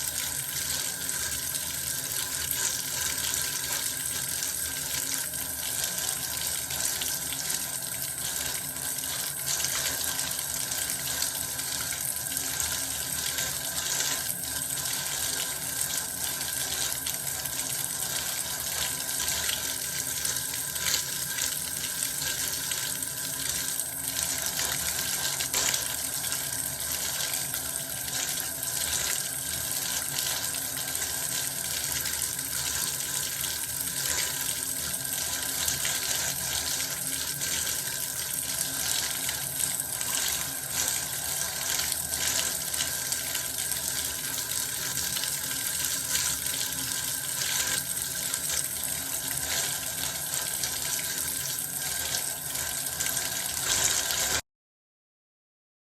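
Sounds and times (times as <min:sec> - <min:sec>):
bath water running from tap: 0:00.0 - 0:54.4.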